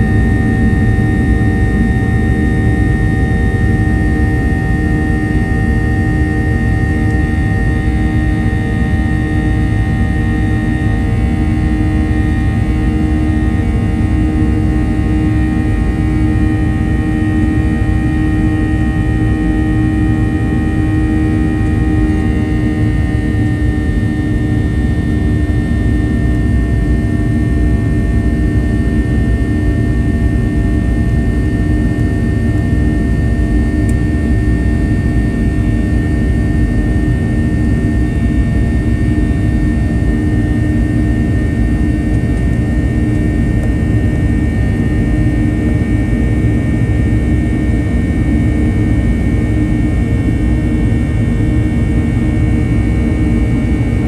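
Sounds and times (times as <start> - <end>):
jet engines heard in cabin: 0.0 - 54.0.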